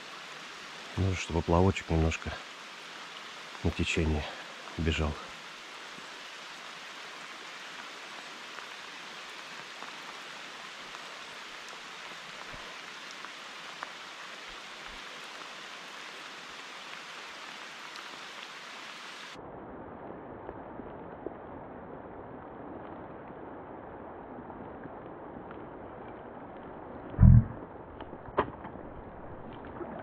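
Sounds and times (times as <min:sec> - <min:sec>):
rain falling on river: 0:00.0 - 0:30.0.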